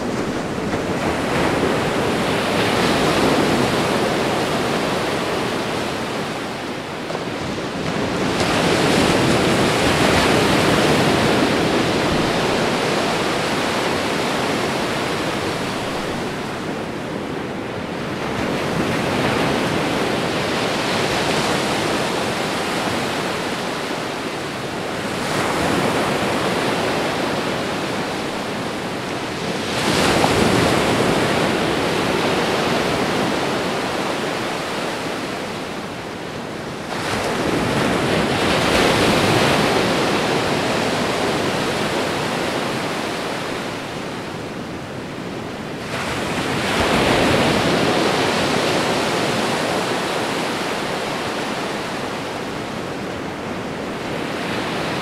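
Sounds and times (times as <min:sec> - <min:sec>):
ocean waves rushing: 0:00.0 - 0:55.0.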